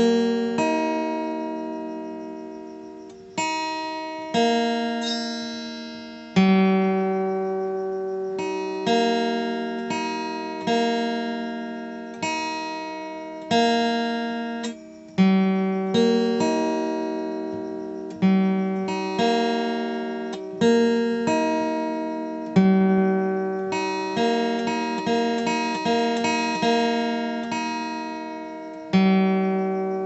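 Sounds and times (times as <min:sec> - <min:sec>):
plucked acoustic guitar chords: 0:00.0 - 0:30.0.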